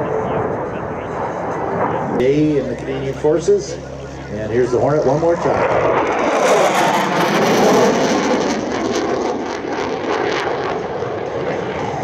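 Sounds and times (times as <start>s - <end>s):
fighter jet passing: 0.0s - 12.0s.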